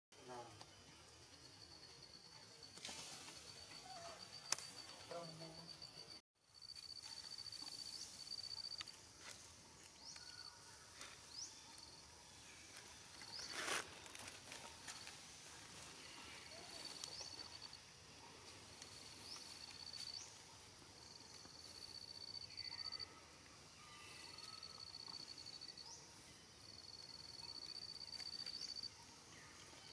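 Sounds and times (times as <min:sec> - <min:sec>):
quiet forest ambience: 0:00.2 - 0:29.9.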